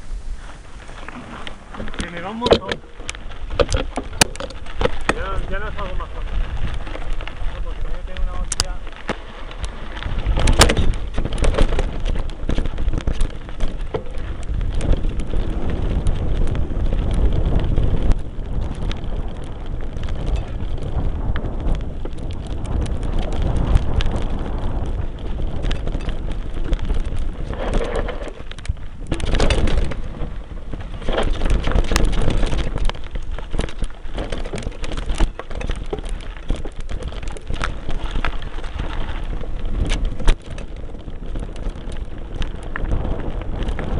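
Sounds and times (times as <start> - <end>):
bike tyre noise on dirt: 0.0 - 43.9
bike knocks and rattles: 0.9 - 43.9.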